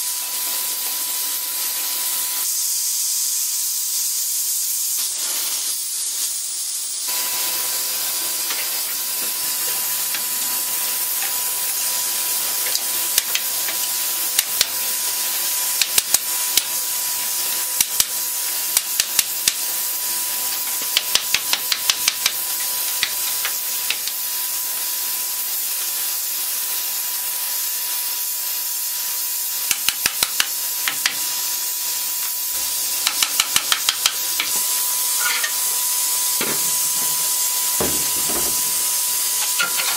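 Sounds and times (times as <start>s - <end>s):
steam hissing: 0.0s - 39.9s
torch flame hissing: 0.7s - 39.9s.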